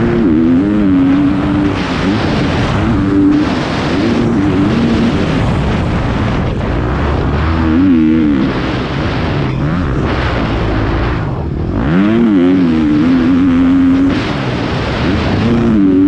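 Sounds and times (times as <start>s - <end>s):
motocross bike engine: 0.0s - 16.0s
rushing noise: 0.0s - 16.0s.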